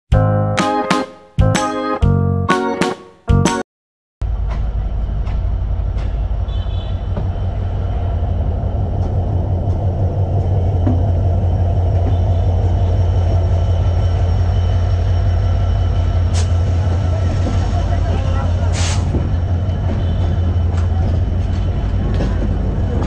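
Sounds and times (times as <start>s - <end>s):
diesel locomotive engine drone: 4.2s - 23.0s.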